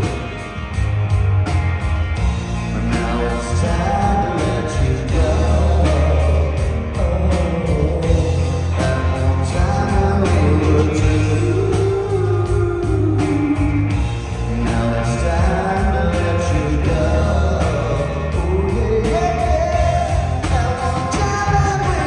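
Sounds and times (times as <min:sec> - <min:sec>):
live rock band playing: 0:00.0 - 0:22.0
man singing lead vocal: 0:02.5 - 0:22.0.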